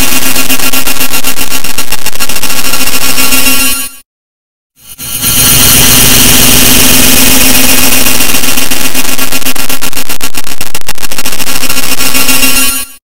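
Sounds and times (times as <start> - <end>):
harsh distorted noise: 0.0 - 4.0, 4.8 - 13.0
steady buzzing tone: 0.0 - 4.0, 4.8 - 13.0.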